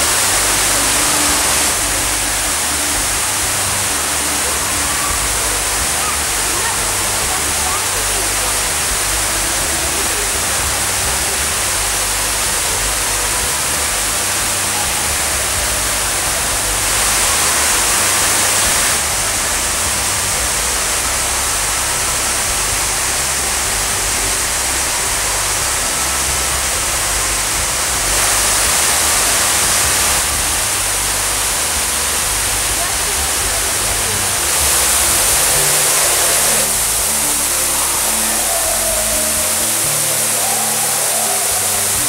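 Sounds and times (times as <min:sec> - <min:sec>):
rushing water: 0:00.0 - 0:42.0.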